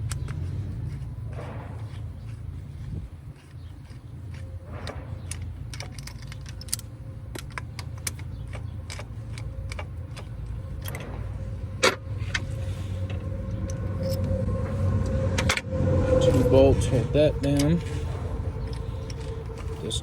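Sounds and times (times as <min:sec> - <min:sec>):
hand tools clicking on metal: 0:00.0 - 0:15.6, 0:17.4 - 0:20.0
low hum: 0:00.0 - 0:20.0.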